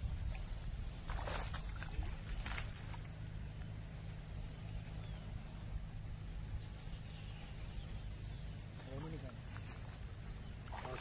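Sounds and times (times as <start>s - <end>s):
faint bird chirps: 0.0s - 11.0s
low outdoor rumble: 0.0s - 11.0s.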